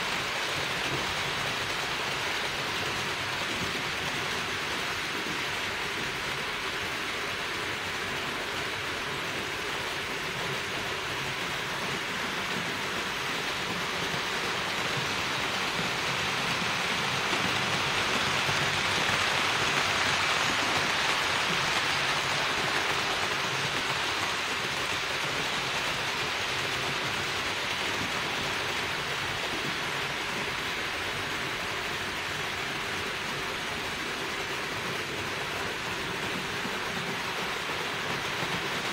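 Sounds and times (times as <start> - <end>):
model train wheels on rails: 0.0 - 38.9.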